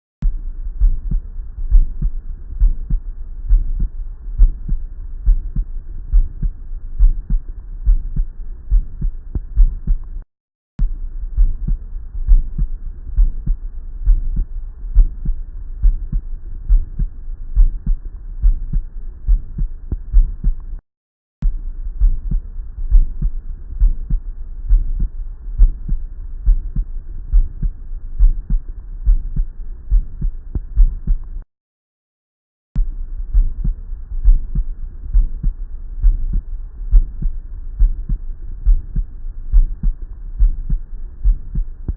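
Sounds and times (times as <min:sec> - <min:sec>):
heartbeat with murmur: 0:00.2 - 0:10.2, 0:10.8 - 0:20.8, 0:21.4 - 0:31.4, 0:32.8 - 0:41.9.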